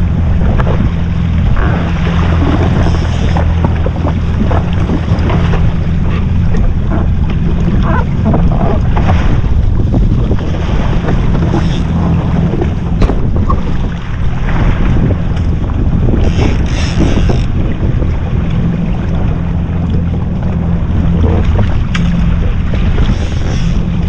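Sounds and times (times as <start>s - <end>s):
jet ski engine running: 0.0s - 24.0s
water rushing along hull: 0.0s - 24.0s
wind buffeting microphone: 0.0s - 24.0s.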